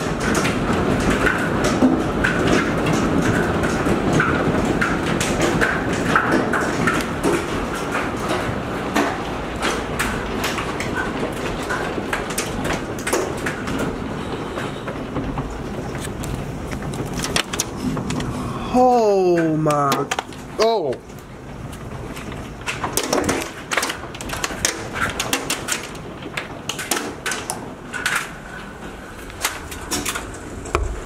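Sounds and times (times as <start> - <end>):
continuous storm roar: 0.0 - 31.0
hail rattling on roof: 0.0 - 31.0.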